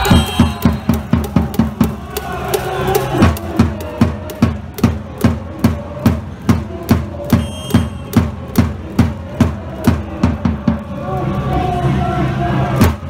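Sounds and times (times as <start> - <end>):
drum beaten in rhythm: 0.0 - 10.8.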